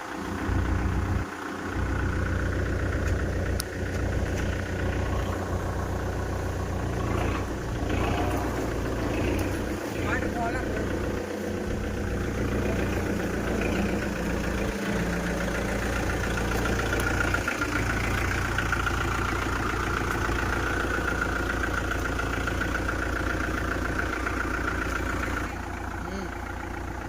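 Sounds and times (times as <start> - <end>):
diesel tractor engine idling: 0.0 - 27.0.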